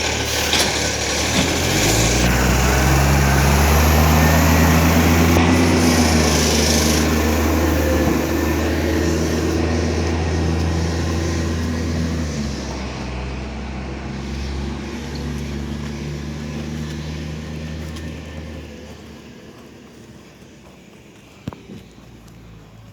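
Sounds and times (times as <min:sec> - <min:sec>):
garbage truck diesel engine running: 0:00.0 - 0:22.9.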